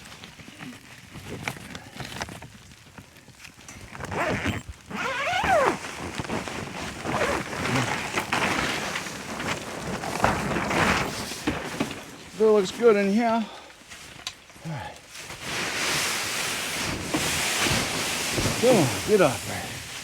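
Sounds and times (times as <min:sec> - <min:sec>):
tarp rustling and scraping: 0:00.0 - 0:20.0.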